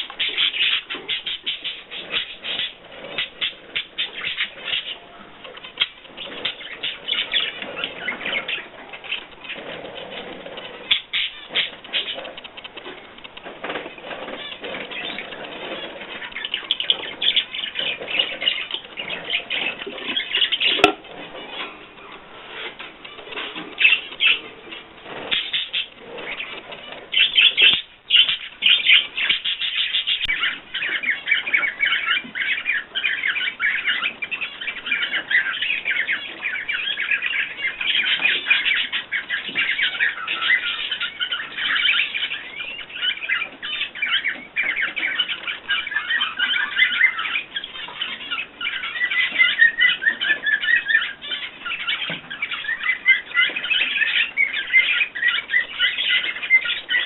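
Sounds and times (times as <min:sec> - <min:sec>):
small birds chirping and chattering: 0:00.0 - 0:57.0.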